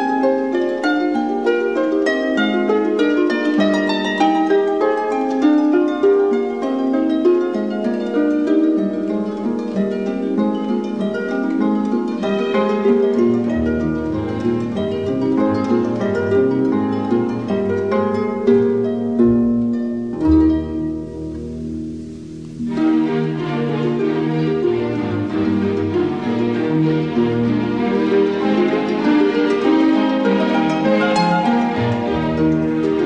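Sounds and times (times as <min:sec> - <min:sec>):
harp plucked notes: 0:00.0 - 0:33.0.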